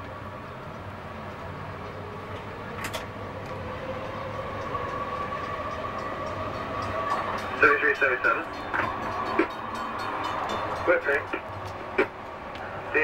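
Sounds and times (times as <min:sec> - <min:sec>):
train rumble and whine: 0:00.0 - 0:13.0.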